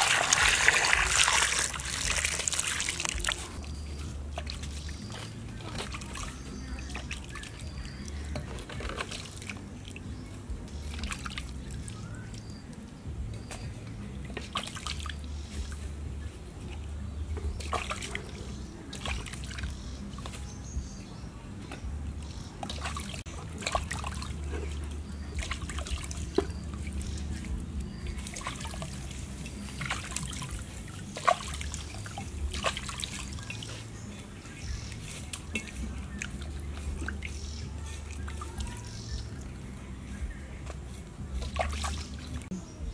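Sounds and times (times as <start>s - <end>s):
water dripping: 0.0s - 20.6s, 21.9s - 42.6s
water splashing in a metal bowl: 0.0s - 20.6s, 21.7s - 42.5s.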